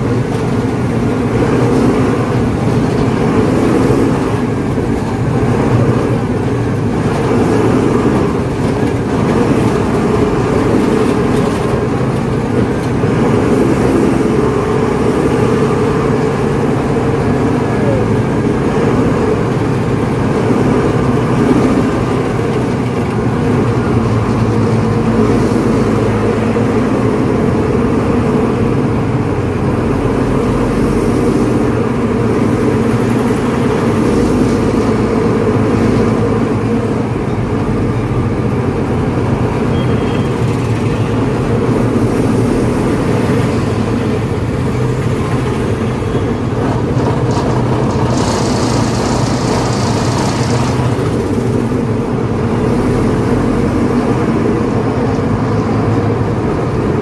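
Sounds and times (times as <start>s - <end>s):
heavy vehicle engine drone: 0.0s - 57.0s.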